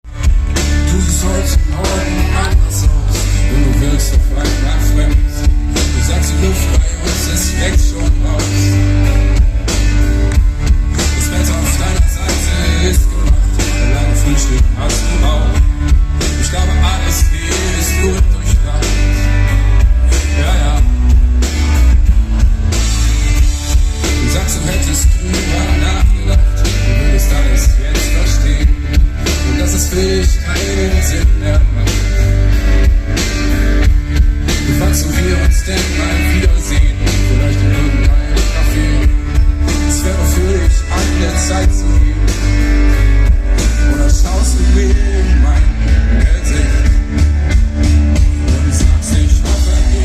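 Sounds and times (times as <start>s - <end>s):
drum kit: 0.0s - 50.0s
heavy bass: 0.0s - 50.0s
rock band playing live: 0.0s - 50.0s.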